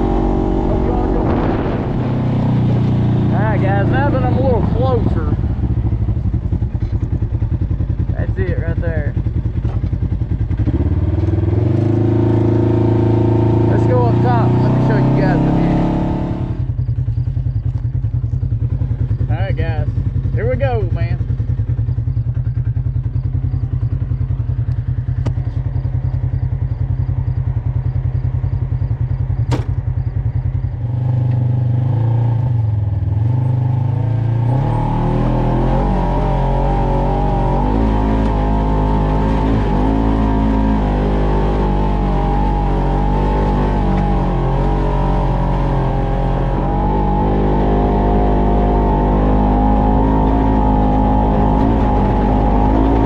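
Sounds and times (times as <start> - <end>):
off-road vehicle engine running: 0.0 - 53.0.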